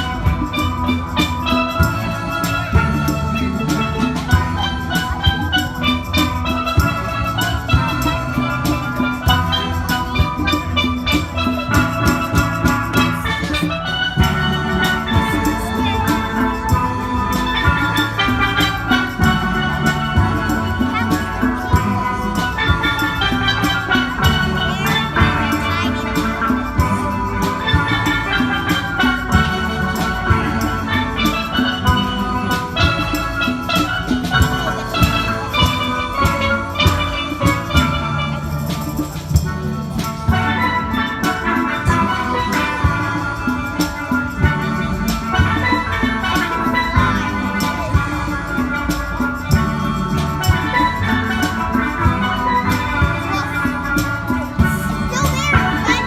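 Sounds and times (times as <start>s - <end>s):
steady drum beat: 0.0s - 56.0s
steelpans playing a tune: 0.0s - 56.0s.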